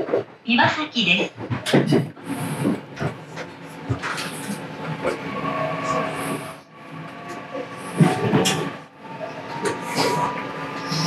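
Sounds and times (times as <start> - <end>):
train running rumble with whine: 0.0 - 11.0.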